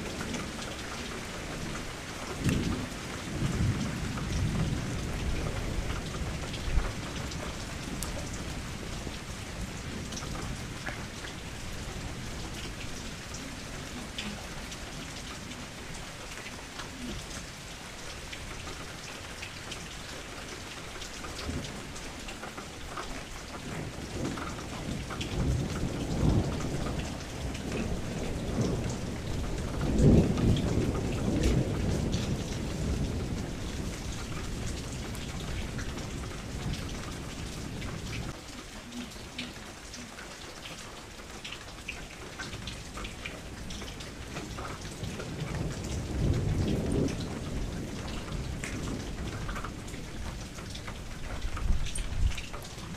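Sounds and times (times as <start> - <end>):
thunder rumbling: 0.0 - 17.4, 23.6 - 39.0, 42.7 - 52.9
raindrops ticking on a surface: 0.0 - 52.9
steady rain falling: 0.0 - 52.9.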